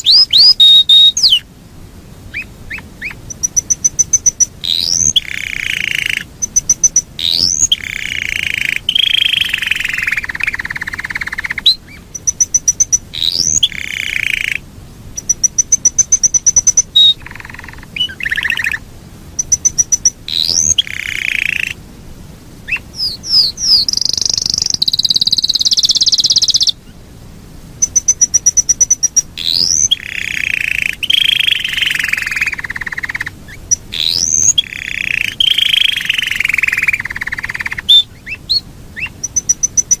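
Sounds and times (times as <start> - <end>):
canary singing trills: 0.0 - 1.5, 2.3 - 18.8, 19.4 - 21.8, 22.6 - 27.0, 27.8 - 40.0.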